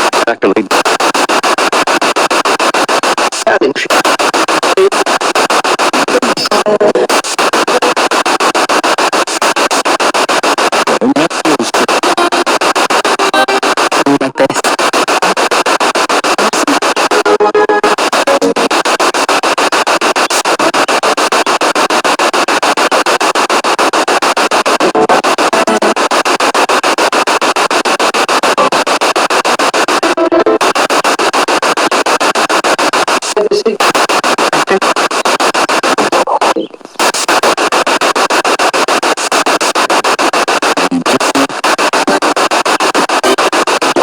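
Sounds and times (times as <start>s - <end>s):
radio hiss chopped rapidly: 0.0s - 44.0s
snatches of broadcast audio: 0.0s - 44.0s.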